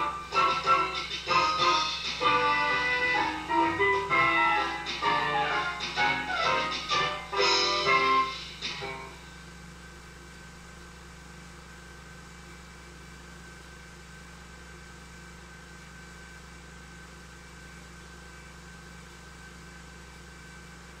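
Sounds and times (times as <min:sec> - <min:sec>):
film projector hum and hiss: 0:00.0 - 0:21.0.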